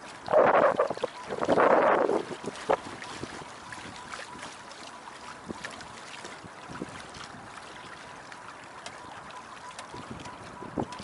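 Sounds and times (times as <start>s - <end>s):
water rushing along a hull: 0.0s - 11.0s
faint steady tone: 0.1s - 11.0s.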